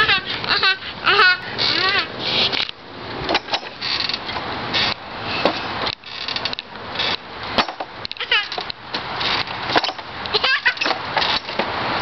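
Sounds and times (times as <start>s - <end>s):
metal swing squeaking: 0.0s - 11.6s.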